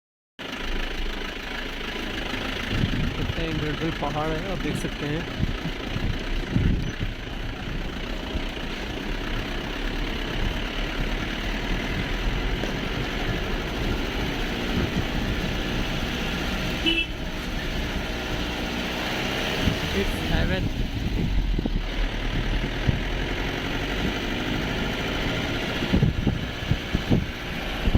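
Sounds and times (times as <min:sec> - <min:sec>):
vehicle engine and road noise: 0:00.4 - 0:27.9.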